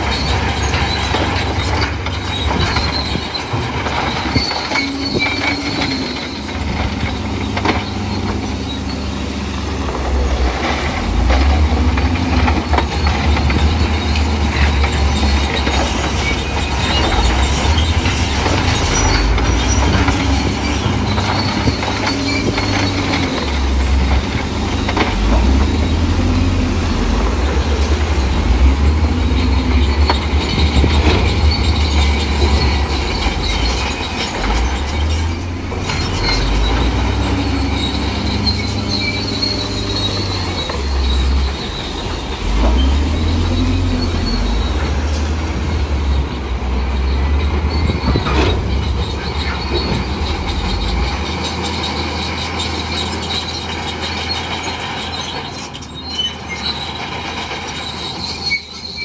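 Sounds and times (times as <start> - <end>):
diesel engine rumbling under load: 0.0 - 59.0
steel tracks squeaking and clanking: 0.0 - 59.0.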